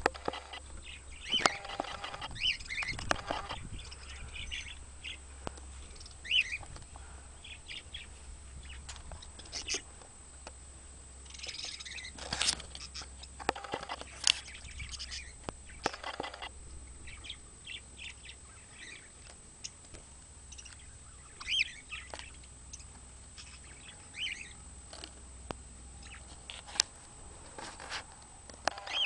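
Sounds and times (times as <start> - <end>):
birds chirping and chattering: 0.0 - 26.4, 28.6 - 29.0.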